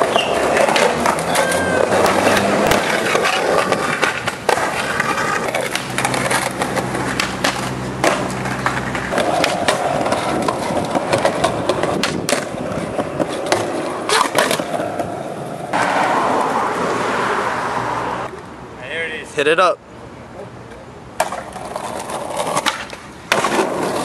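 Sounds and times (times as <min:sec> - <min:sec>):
skateboard popping and landing: 0:00.0 - 0:17.1, 0:21.2 - 0:24.0
skateboard wheels rolling on concrete: 0:00.0 - 0:24.0.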